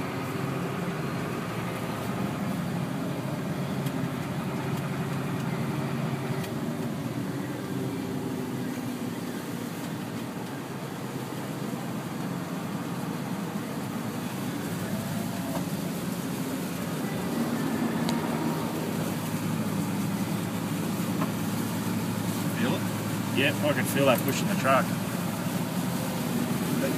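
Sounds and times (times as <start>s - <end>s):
truck engine and road noise: 0.0s - 26.9s.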